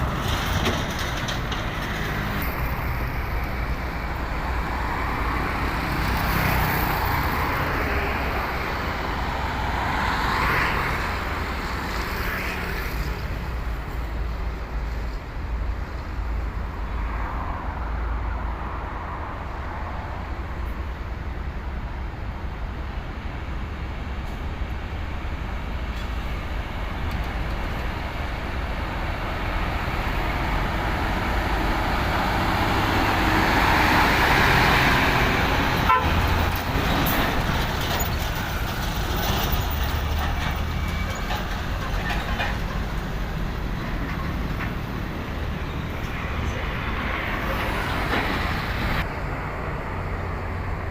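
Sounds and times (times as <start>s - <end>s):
road traffic passing: 0.0s - 50.9s.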